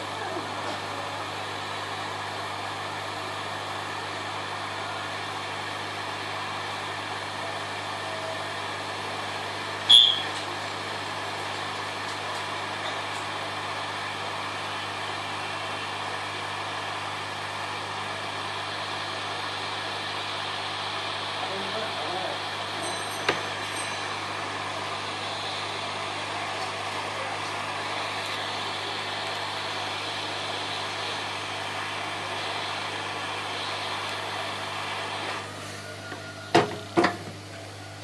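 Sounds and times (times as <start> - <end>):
whirring with low hum: 0.0 - 38.0.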